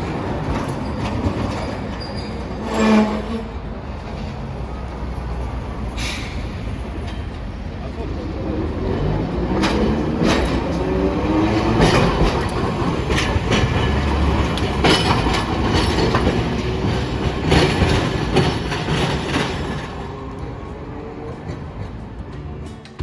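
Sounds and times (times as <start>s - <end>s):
streetcar rumble: 0.0s - 23.0s
streetcar wheels clacking on rails: 0.0s - 23.0s.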